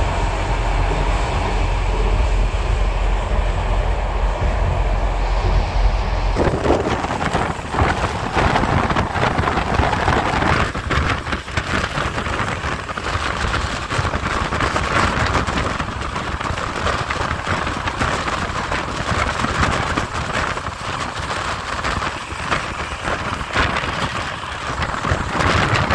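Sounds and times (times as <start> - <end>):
low hum inside train coach: 0.0 - 25.9
train running noise: 0.0 - 25.9
wind buffeting microphone: 0.0 - 25.9.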